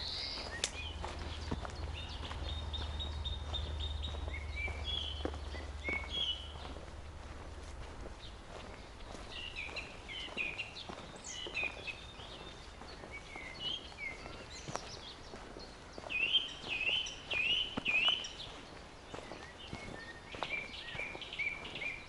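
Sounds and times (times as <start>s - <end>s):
faint footsteps on forest path: 0.0s - 22.0s
songbirds singing: 0.0s - 22.0s.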